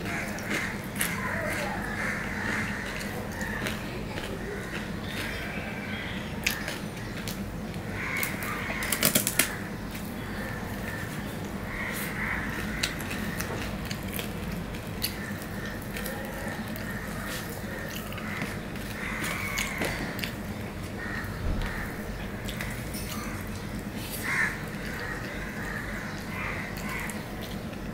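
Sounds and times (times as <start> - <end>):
chewing with wet mouth clicks: 0.0 - 8.4, 12.5 - 21.0, 22.2 - 27.9.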